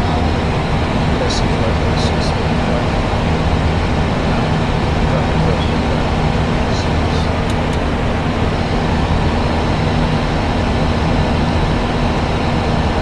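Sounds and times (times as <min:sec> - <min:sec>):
aircraft engine noise: 0:00.0 - 0:13.0
airflow rushing in cockpit: 0:00.0 - 0:13.0
low hum: 0:00.0 - 0:13.0.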